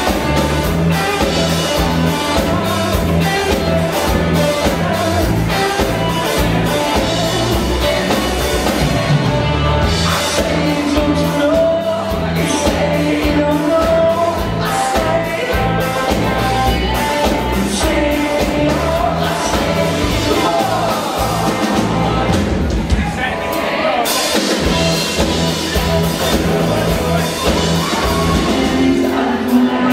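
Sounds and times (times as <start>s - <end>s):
person singing: 0.0s - 22.5s, 23.3s - 29.9s
rock band playing live: 0.0s - 29.9s.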